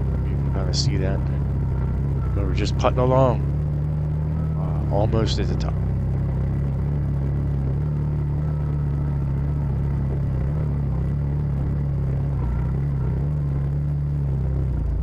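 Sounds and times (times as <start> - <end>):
vehicle engine under load: 0.0 - 15.0.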